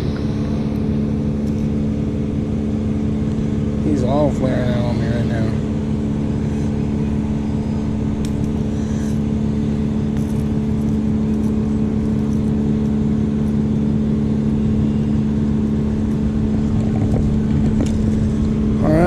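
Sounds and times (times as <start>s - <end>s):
steady motor hum: 0.0s - 19.0s
wind rumble on microphone: 0.0s - 19.0s.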